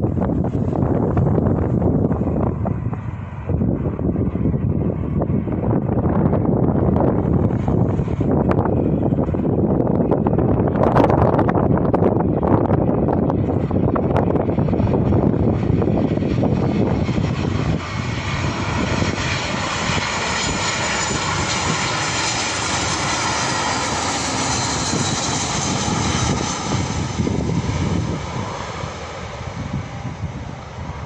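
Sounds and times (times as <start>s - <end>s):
jet airliner engine roar: 0.0s - 31.0s
wind buffeting microphone: 0.0s - 31.0s.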